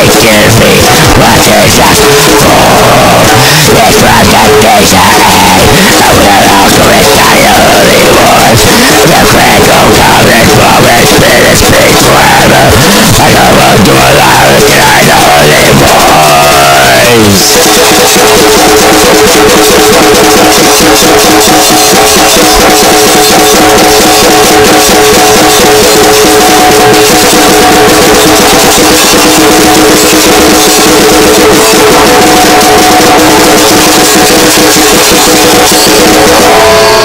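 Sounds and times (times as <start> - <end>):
electric guitar chords: 0.0 - 37.0
rapid drumming: 0.0 - 37.0.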